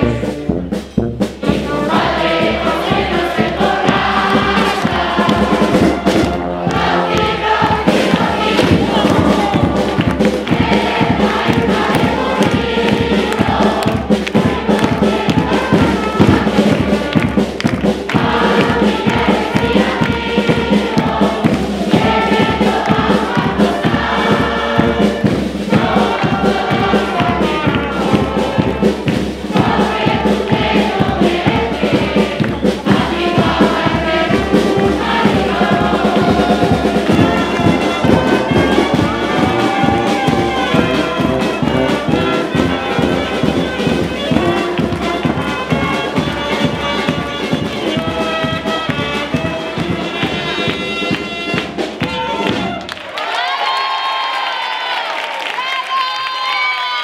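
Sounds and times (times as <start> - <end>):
bass drum beat: 0.0 - 52.8
brass band playing: 0.0 - 53.0
group singing in chorus: 1.4 - 50.8.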